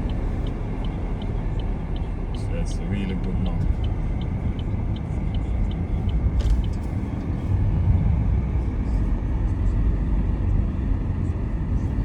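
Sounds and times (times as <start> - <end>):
road and tyre rumble in car: 0.0 - 12.0.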